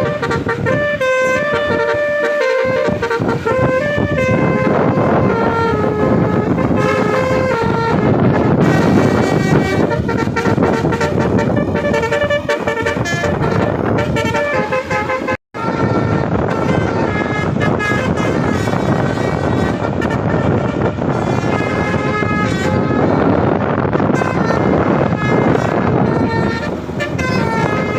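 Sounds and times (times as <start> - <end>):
engine and road noise: 0.0 - 27.9
musical air horn tune: 0.0 - 27.9.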